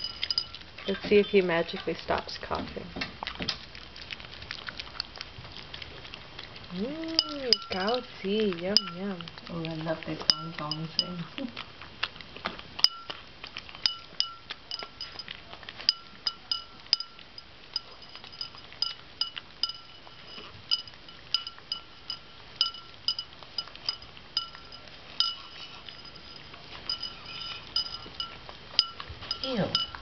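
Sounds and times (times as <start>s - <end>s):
dog eating from ceramic bowl: 0.0s - 30.0s.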